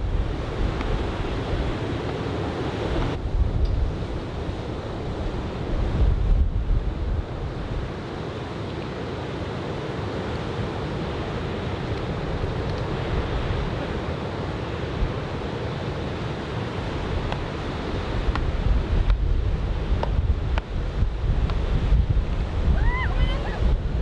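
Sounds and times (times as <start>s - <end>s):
wind buffeting microphone: 0.0s - 8.3s, 10.2s - 24.0s
ocean surf breaking on beach: 0.0s - 24.0s.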